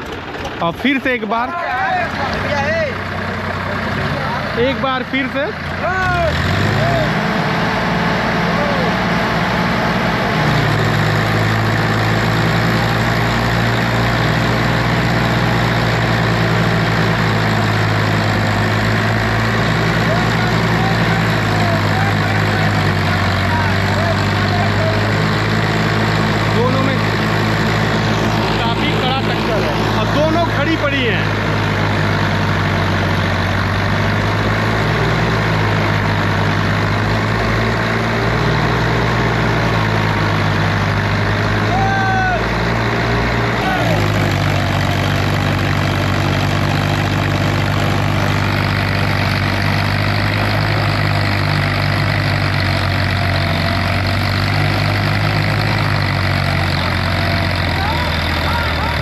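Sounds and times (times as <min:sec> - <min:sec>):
tractor engines running hard: 0:00.0 - 0:59.0.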